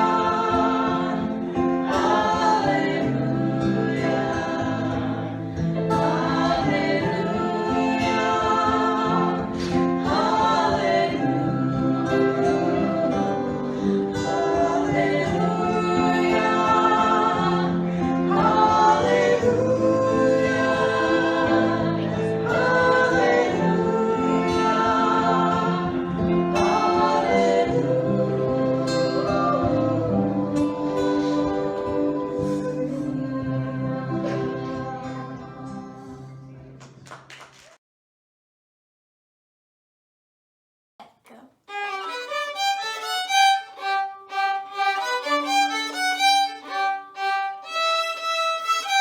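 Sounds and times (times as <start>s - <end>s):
person singing: 0.0s - 5.3s, 5.9s - 36.3s, 41.7s - 49.0s
plucked guitar: 0.0s - 36.8s, 41.7s - 49.0s.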